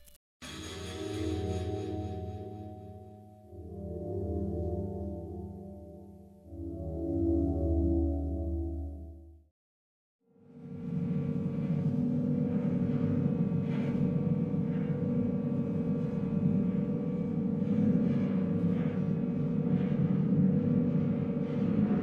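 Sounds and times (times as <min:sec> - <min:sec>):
dark ambient drone: 0:00.4 - 0:09.4, 0:10.4 - 0:22.0.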